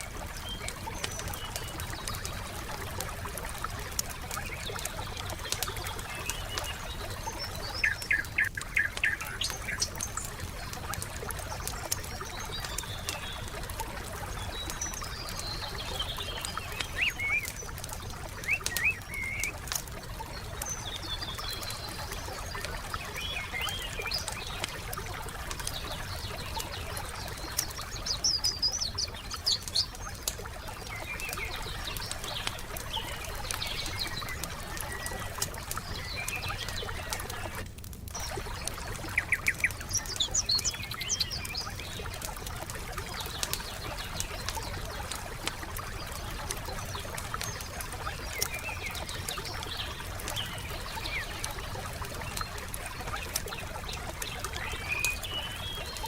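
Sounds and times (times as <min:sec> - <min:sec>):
songbirds chirping: 0:00.0 - 0:56.0
wood fire crackling: 0:00.0 - 0:56.0.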